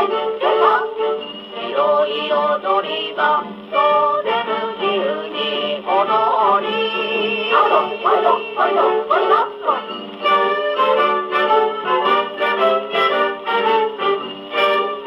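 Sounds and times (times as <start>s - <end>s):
singer with band on gramophone: 0.0s - 15.0s.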